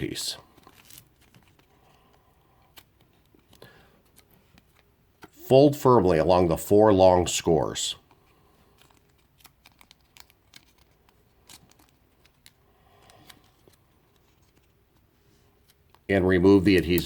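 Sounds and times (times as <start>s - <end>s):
card being folded by hand: 0.0s - 5.4s, 8.0s - 17.0s.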